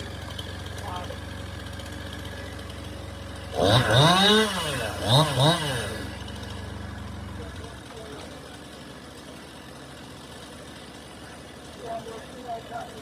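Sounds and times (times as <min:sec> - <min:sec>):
chainsaw revving: 0:00.0 - 0:13.0
engine running steadily: 0:00.0 - 0:13.0.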